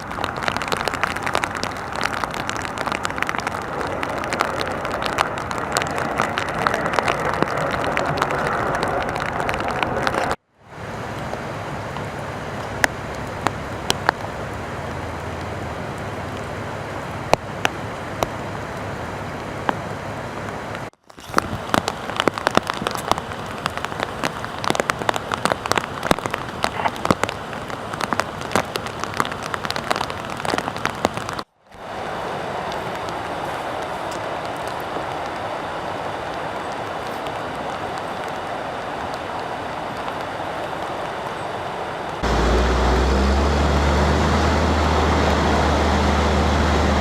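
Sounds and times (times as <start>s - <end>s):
raindrops ticking on a surface: 0.0s - 47.0s
steady rain falling: 0.0s - 47.0s.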